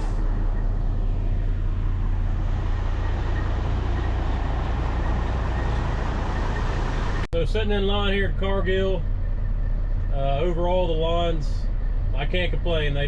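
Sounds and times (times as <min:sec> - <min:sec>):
truck engine low rumble: 0:00.0 - 0:13.0.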